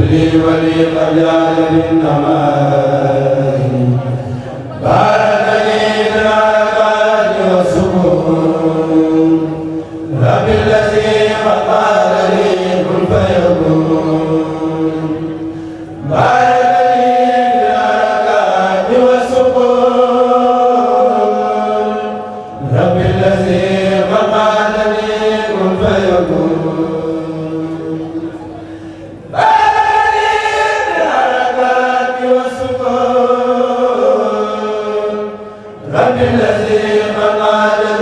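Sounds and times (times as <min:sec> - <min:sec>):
choir chanting unaccompanied: 0:00.0 - 0:38.0.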